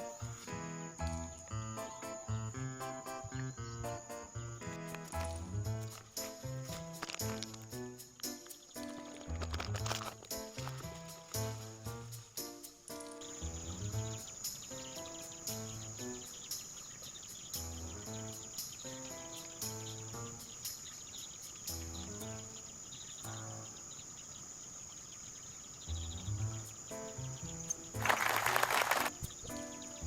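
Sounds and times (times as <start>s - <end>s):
background music with low notes: 0.0s - 23.9s, 25.9s - 30.0s
high-pitched insect chorus: 0.0s - 30.0s.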